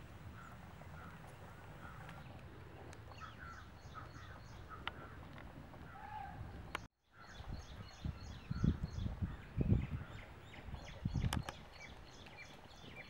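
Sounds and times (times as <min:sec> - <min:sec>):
birds calling: 0:00.3 - 0:13.0.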